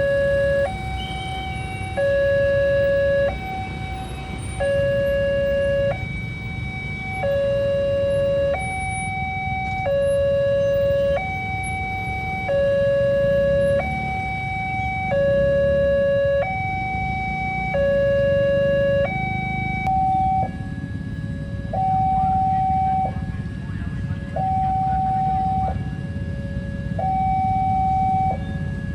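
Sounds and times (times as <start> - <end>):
two-tone level crossing alarm: 0.0 - 23.3, 24.2 - 28.9
low rumble of road traffic: 0.0 - 28.9.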